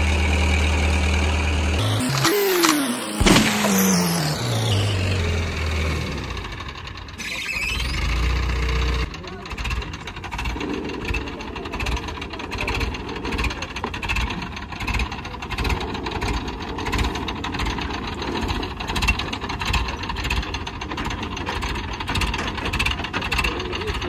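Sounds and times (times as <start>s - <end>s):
diesel engine throbbing: 0.0s - 24.0s.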